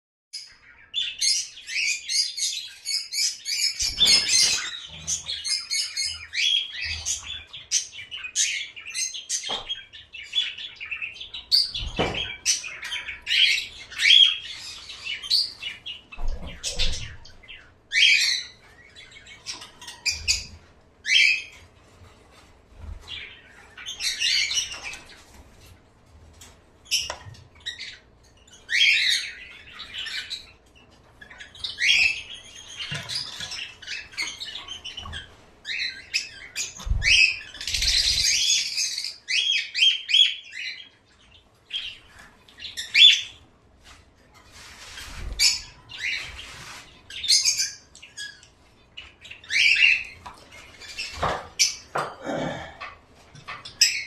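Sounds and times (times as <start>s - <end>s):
small birds chirping: 0.4s - 25.8s, 26.4s - 54.0s.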